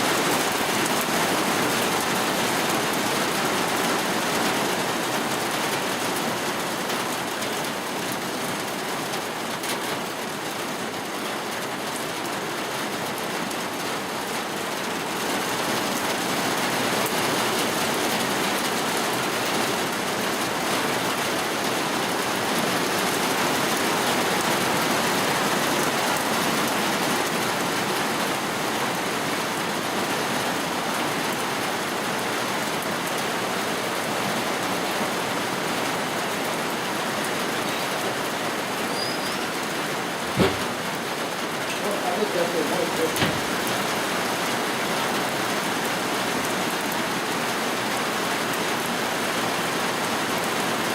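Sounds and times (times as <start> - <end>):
heavy rain: 0.0 - 50.9.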